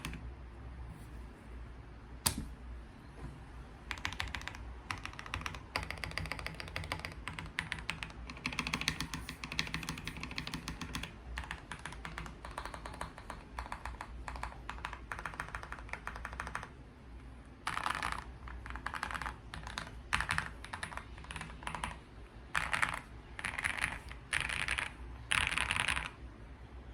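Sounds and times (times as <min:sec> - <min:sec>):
mechanical keyboard typing: 0:00.0 - 0:00.2, 0:03.9 - 0:16.8, 0:17.6 - 0:26.2.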